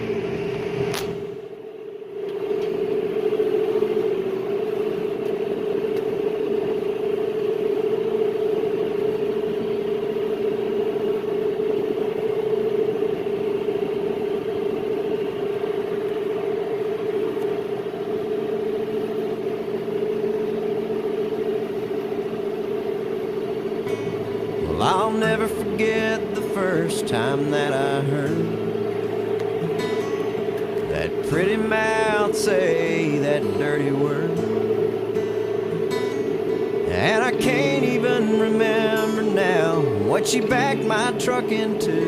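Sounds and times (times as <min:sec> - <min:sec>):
tractor diesel engine drone: 0:00.0 - 0:42.0.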